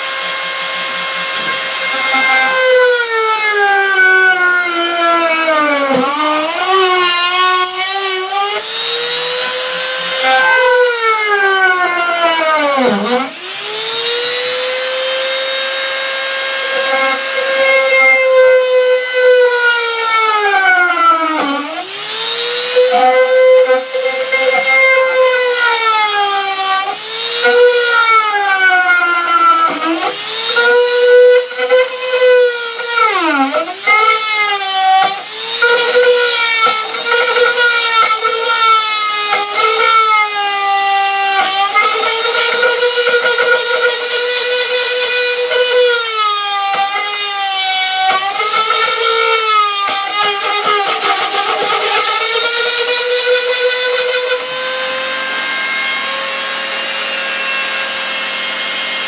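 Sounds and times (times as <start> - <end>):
rotary tool cutting wood: 0.0 - 59.0.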